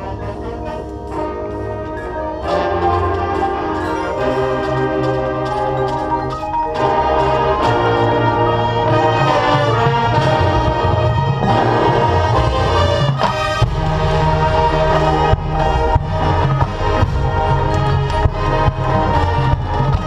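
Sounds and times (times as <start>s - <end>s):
brass chords: 0.0s - 20.0s
marimba: 0.0s - 20.0s
sharp percussion hits: 1.2s - 20.0s.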